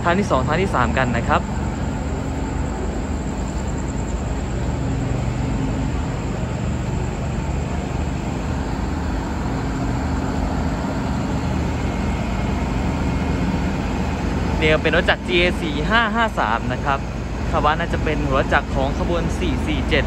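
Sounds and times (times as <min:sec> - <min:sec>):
diesel train idling: 0:00.0 - 0:20.0.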